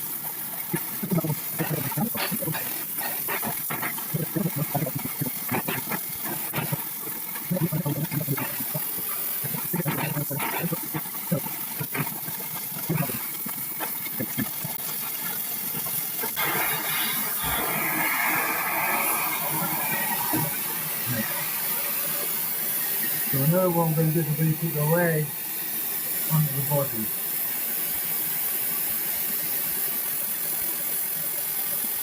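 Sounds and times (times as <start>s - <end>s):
torch flame hissing: 0.0s - 31.9s.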